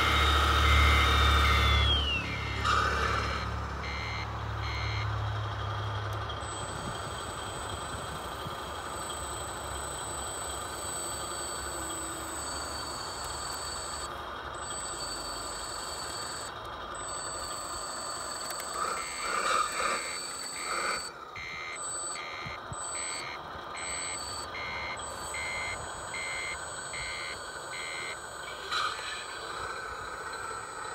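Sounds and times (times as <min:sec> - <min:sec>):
reversing beeper: 0:00.0 - 0:05.2, 0:06.4 - 0:30.9.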